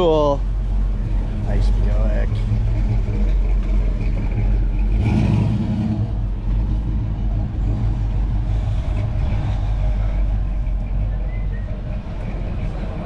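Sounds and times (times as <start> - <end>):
car engine idling: 0.0 - 13.0
outdoor noise: 0.0 - 13.0.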